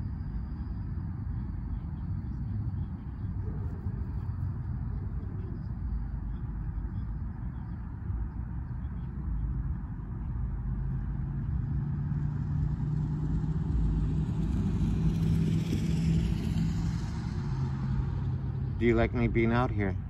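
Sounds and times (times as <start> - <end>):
vehicle engine hum and tyre hiss: 0.0 - 20.0.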